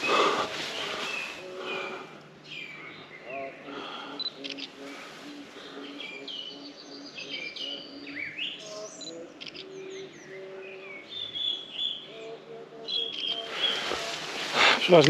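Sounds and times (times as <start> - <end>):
birds chirping and whistling: 0.0 - 15.0
low repeated bird note: 0.0 - 15.0.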